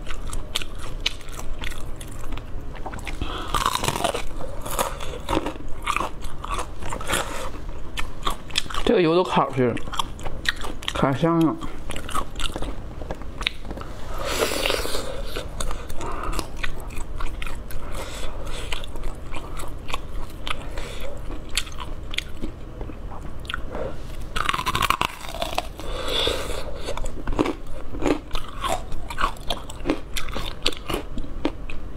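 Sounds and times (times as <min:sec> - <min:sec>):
person chewing crunchy food: 0:00.0 - 0:31.9.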